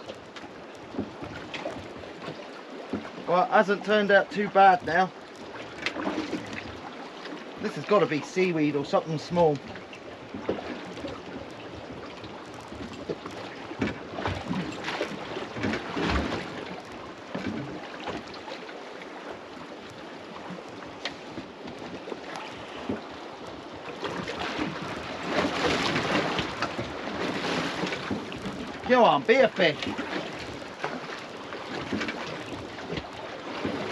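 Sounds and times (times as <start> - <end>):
water lapping against boat hull: 0.0 - 33.9.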